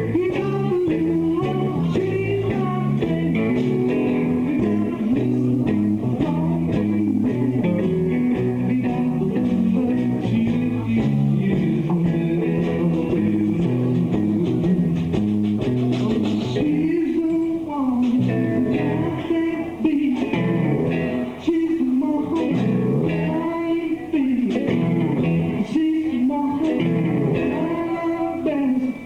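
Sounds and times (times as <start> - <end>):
electric guitar bending notes: 0.0 - 21.5, 22.2 - 29.0
live blues-rock band: 0.0 - 29.0.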